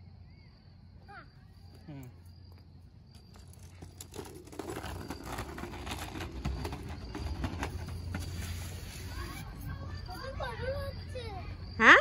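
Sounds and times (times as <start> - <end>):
scooter wheels rolling on concrete: 1.6 - 11.4.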